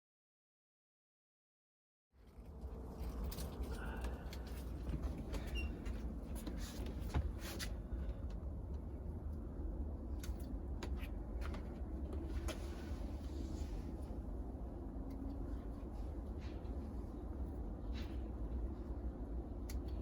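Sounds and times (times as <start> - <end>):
steady low rumble: 2.3 - 20.0.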